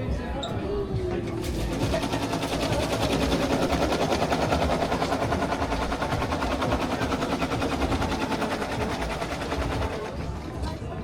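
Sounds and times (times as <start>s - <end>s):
rapid mechanical rattle: 1.4s - 10.9s.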